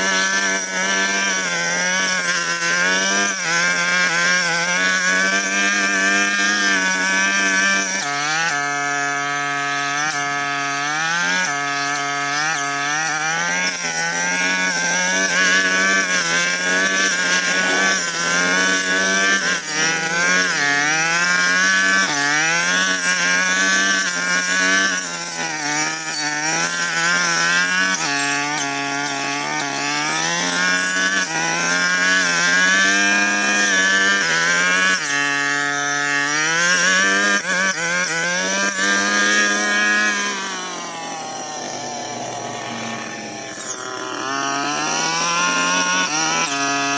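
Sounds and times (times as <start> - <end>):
brush cutter engine: 0.0 - 46.9.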